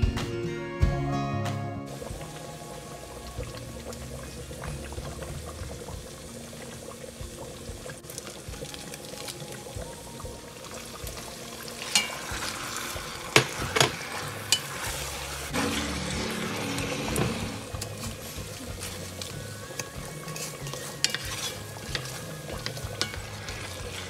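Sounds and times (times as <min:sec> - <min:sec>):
onions sizzling in oil: 0:01.9 - 0:24.0.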